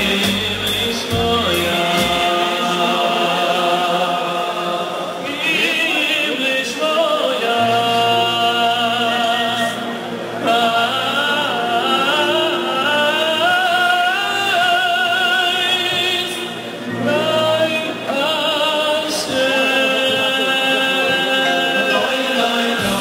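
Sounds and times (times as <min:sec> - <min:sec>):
men's choir singing: 0:00.0 - 0:23.0.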